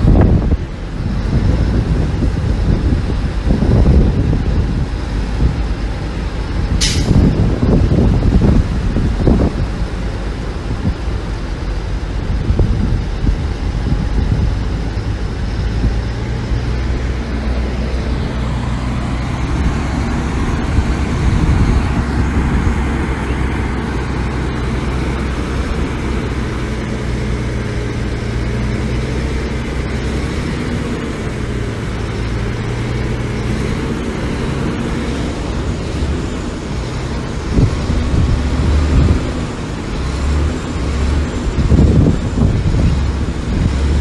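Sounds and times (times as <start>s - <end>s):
heavy diesel engine droning: 0.0s - 44.0s.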